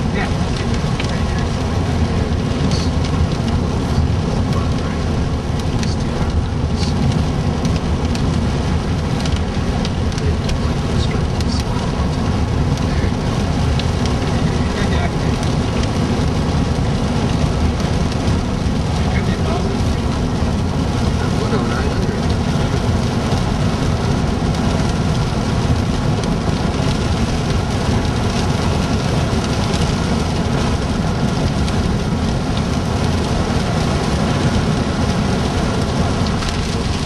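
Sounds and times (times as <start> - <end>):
continuous low rumble: 0.0 - 37.0
rain and hail on vehicle roof: 0.0 - 37.0.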